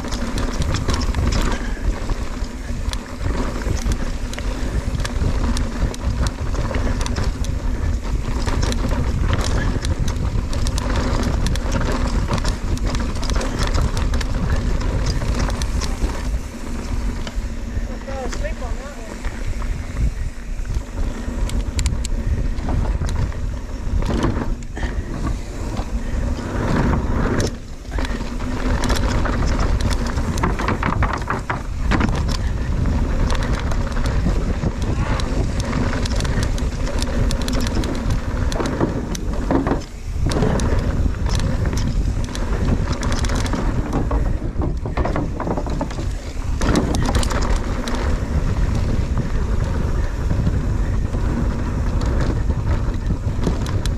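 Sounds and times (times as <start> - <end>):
bike rattling over rough trail: 0.0 - 53.9
wind on microphone: 0.0 - 53.9.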